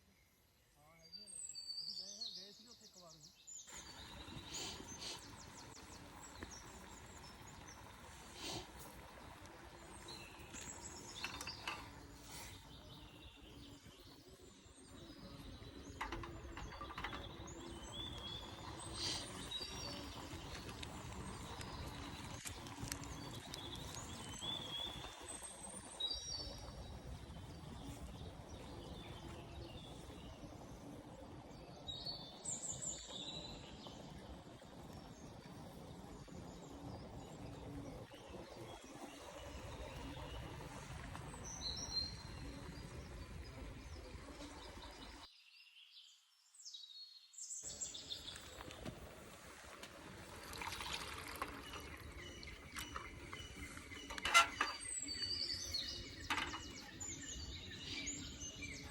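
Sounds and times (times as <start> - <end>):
small birds chirping: 0.0 - 49.4, 50.0 - 58.9
outdoor background noise: 0.0 - 58.9.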